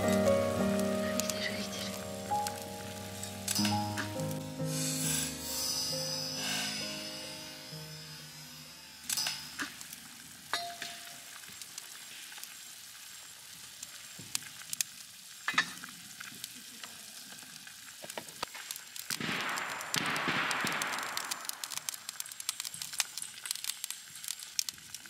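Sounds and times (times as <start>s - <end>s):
food sizzling in a frying pan: 0.0s - 20.0s, 20.6s - 25.0s.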